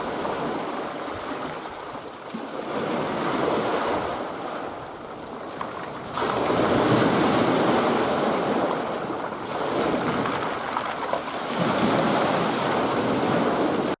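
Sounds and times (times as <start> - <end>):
waves breaking on shore: 0.0 - 14.0.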